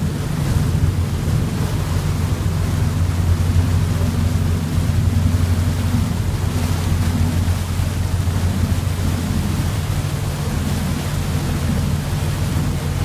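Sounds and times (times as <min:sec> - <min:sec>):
boat engine droning: 0:00.0 - 0:13.0
rushing wake water: 0:00.0 - 0:13.0
wind: 0:00.0 - 0:13.0.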